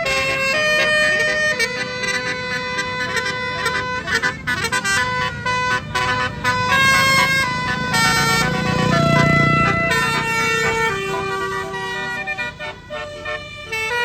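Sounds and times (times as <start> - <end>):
bus rumble: 0.0 - 14.0
musical air horn playing tune: 0.0 - 14.0.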